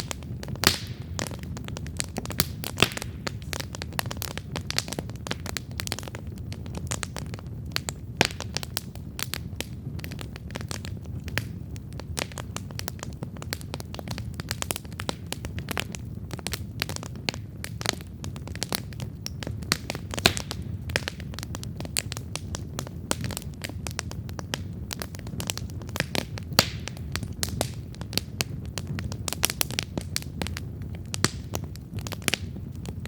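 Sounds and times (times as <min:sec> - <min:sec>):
campfire crackling and popping: 0:00.0 - 0:33.0
low fire rumble: 0:00.0 - 0:33.0.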